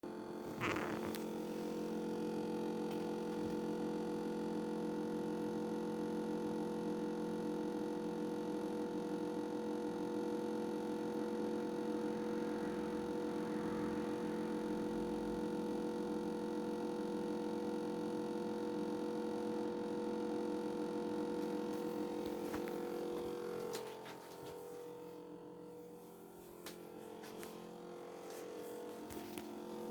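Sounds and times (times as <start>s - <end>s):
electrical hum: 0.1s - 5.5s, 9.8s - 29.9s.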